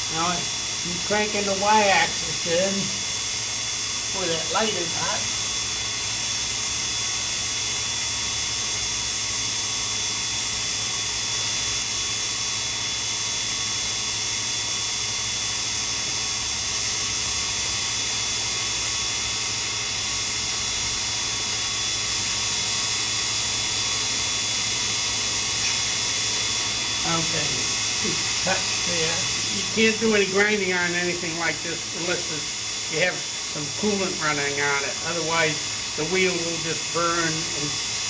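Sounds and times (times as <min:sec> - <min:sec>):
grinding wheel motor whining: 0:00.0 - 0:38.0.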